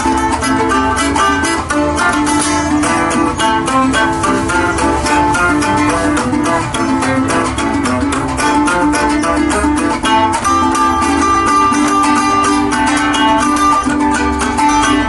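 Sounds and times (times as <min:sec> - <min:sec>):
plucked string melody: 0:00.0 - 0:15.0
strummed string chords: 0:00.0 - 0:15.0.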